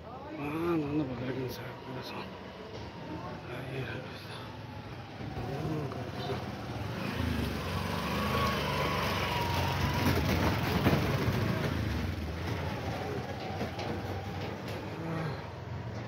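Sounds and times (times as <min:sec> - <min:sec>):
vehicle engine running: 0:02.6 - 0:16.0.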